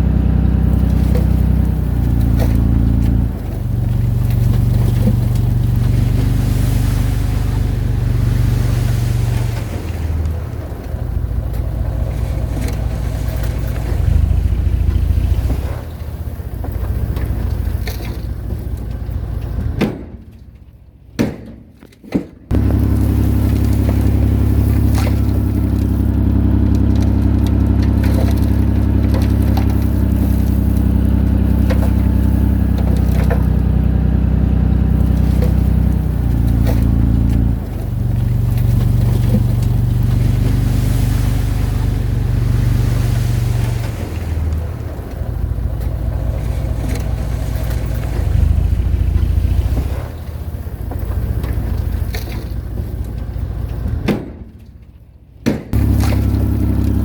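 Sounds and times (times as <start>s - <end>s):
diesel engine of heavy machinery: 0.0s - 21.2s, 22.5s - 57.0s.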